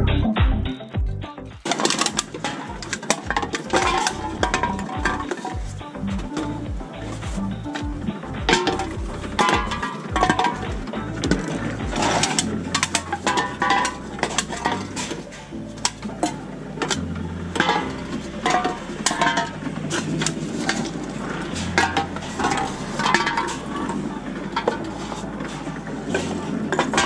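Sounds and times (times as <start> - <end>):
cans and bottles clinking: 1.6 - 7.8, 8.4 - 27.0
low machine hum: 2.2 - 27.0.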